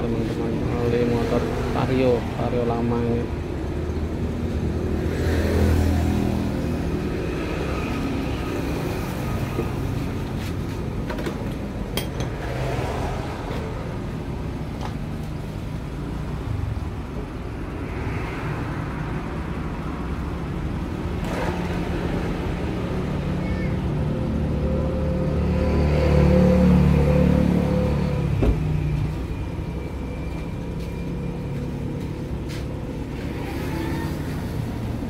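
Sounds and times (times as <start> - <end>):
road traffic going by: 0.0 - 35.0.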